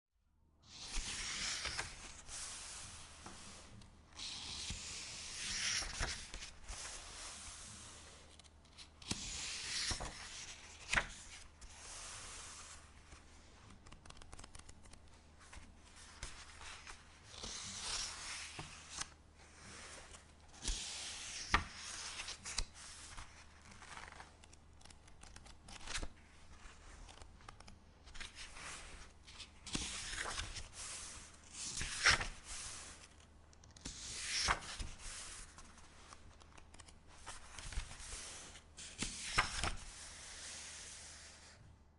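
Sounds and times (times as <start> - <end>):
book pages turning: 0.7 - 41.6.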